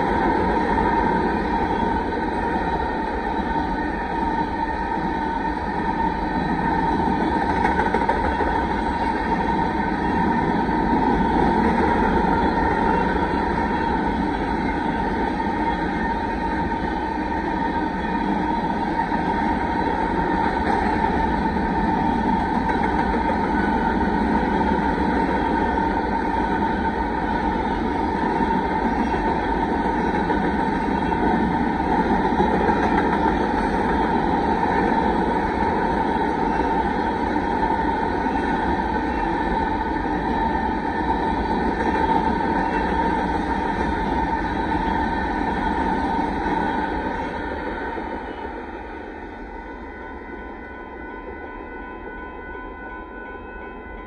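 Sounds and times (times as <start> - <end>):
train wheels rumbling on rail: 0.0 - 54.0
steady high tone: 8.6 - 54.0.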